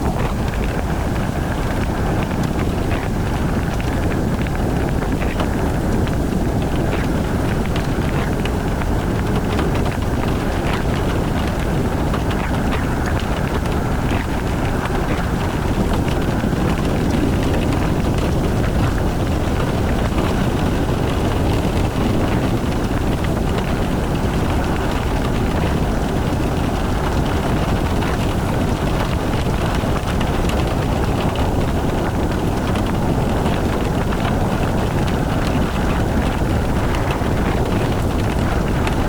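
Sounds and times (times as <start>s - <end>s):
rain on car: 0.0s - 39.0s
road and wind noise: 0.0s - 39.0s.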